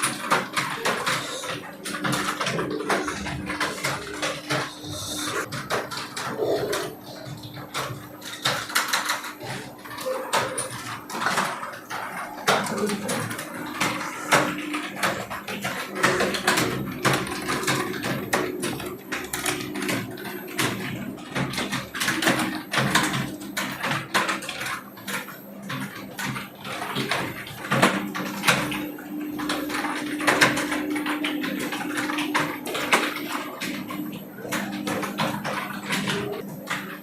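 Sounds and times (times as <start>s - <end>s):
keyboards typing clatter: 0.0s - 37.0s.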